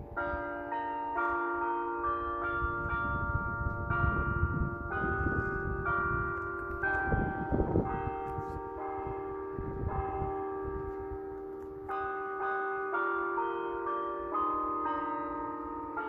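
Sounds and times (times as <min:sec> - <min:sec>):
electronic church bells tune: 0:00.0 - 0:16.0.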